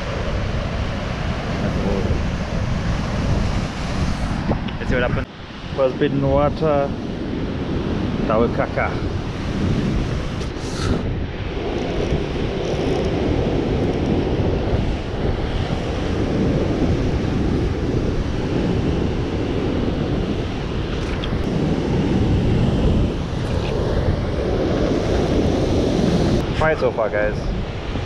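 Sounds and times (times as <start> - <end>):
ocean surf breaking over rocks: 0.0 - 28.0
wind buffeting microphone: 0.0 - 28.0.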